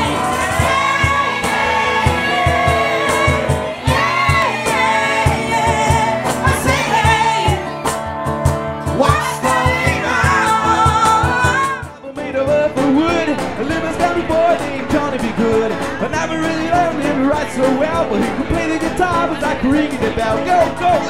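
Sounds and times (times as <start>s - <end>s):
people singing: 0.0s - 7.8s, 9.0s - 21.0s
live band backing: 0.0s - 21.0s.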